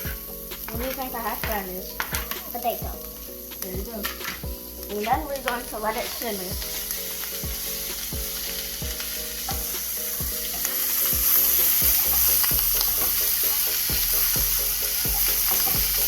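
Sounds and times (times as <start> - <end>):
background music with steady beat: 0.0 - 16.0
food sizzling in a frying pan: 0.0 - 16.0.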